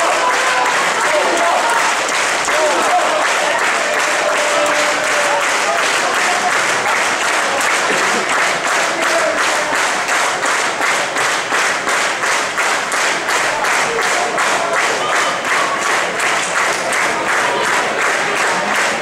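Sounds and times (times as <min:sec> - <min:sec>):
crowd clapping in unison: 0:00.0 - 0:19.0.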